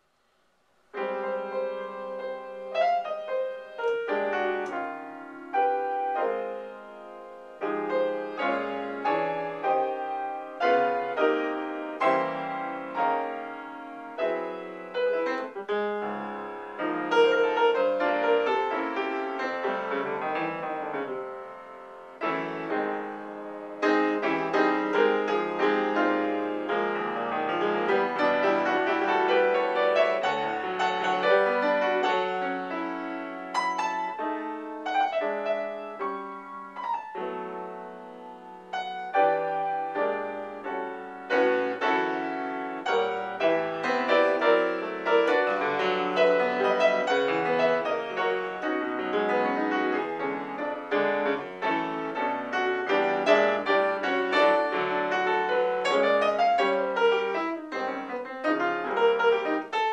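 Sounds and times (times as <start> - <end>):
solo jazz piano: 0.0 - 59.9.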